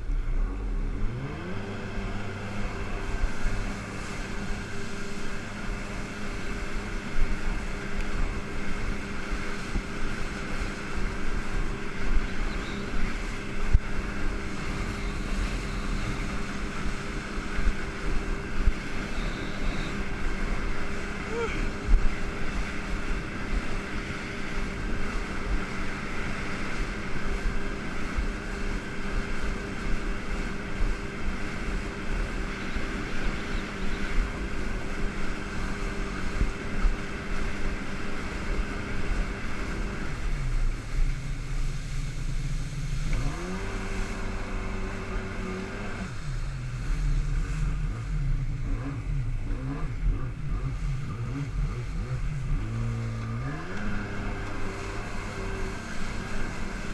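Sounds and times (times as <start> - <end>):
jet ski engine revving: 0.0 - 56.9.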